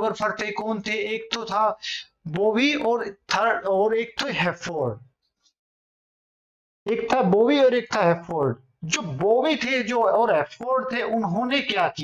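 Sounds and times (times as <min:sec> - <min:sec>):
man speaking: 0:00.0 - 0:05.1, 0:06.9 - 0:12.0.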